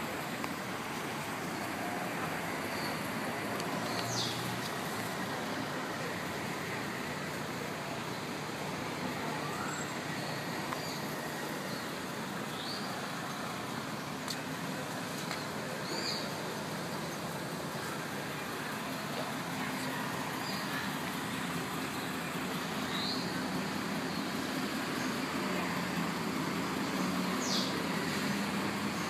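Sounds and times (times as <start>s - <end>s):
distant traffic hum: 0.0s - 29.0s.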